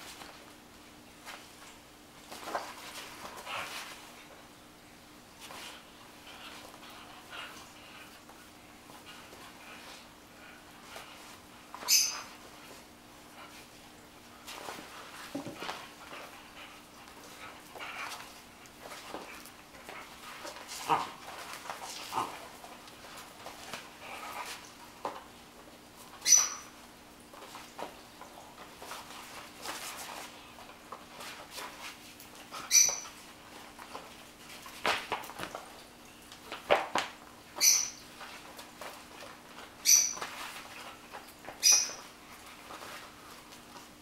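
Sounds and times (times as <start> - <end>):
paws on a hard floor: 0.0 - 4.6, 5.3 - 44.0.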